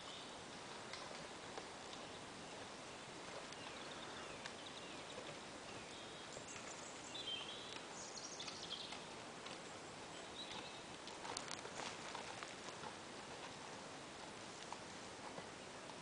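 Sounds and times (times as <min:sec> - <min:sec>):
faint birdsong: 0:00.0 - 0:16.0
outdoor hiss: 0:00.0 - 0:16.0.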